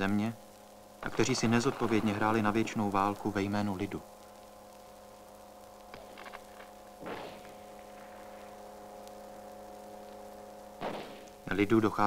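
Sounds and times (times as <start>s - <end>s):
steady multi-pitch hum: 0.0s - 12.0s.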